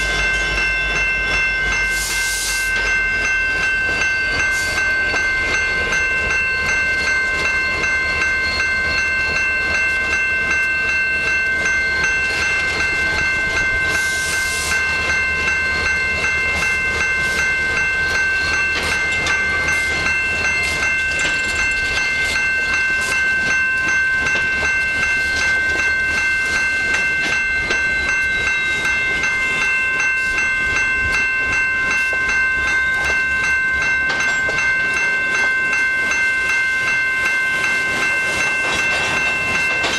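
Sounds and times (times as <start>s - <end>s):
low train rumble: 0.0s - 39.9s
train wheels clicking on rail joints: 0.0s - 39.9s.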